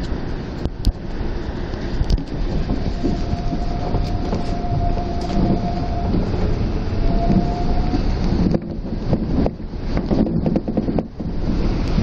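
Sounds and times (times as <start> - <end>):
monorail car rumble: 0.0 - 12.0
thin steady whine: 0.0 - 12.0.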